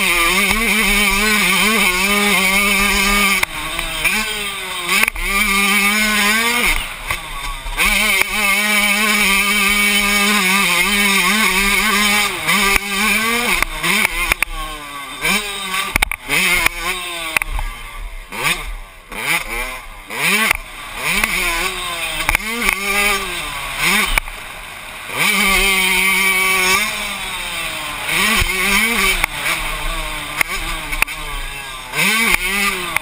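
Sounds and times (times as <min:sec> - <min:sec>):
motocross engine revving: 0:00.0 - 0:33.0.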